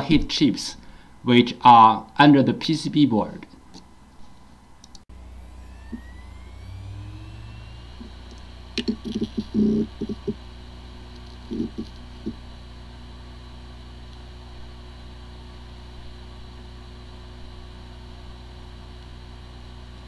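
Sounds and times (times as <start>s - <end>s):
hard drive humming and whining: 0.0s - 20.0s.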